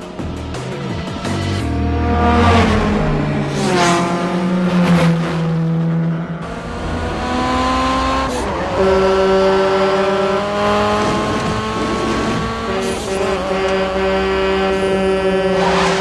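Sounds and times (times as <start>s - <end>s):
car engines revving high: 0.0s - 16.0s.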